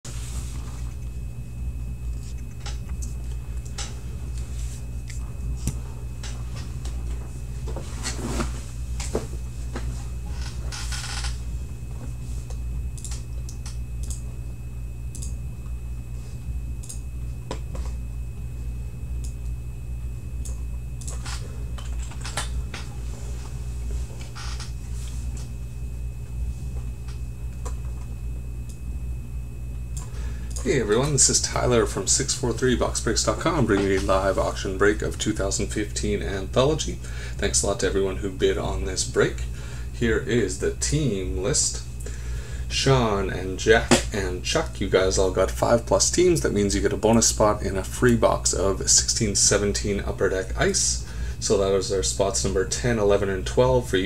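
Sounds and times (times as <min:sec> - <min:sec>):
low hum: 0:00.1 - 0:54.0
thin high whine: 0:00.1 - 0:54.0.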